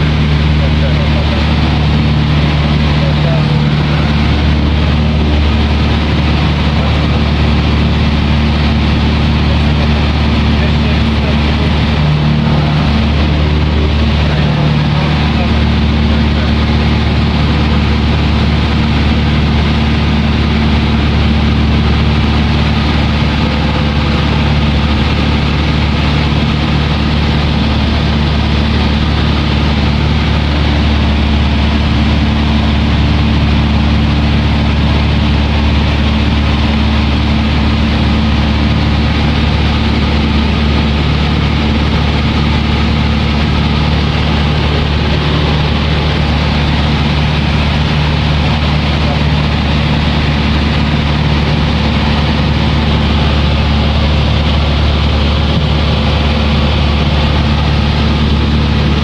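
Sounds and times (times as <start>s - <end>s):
propeller aeroplane engine droning: 0.0s - 59.0s.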